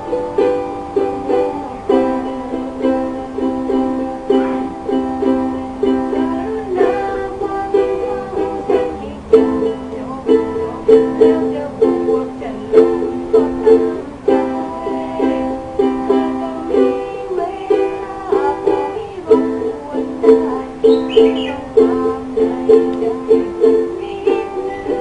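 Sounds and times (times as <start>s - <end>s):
ukuleles strummed: 0.0s - 25.0s.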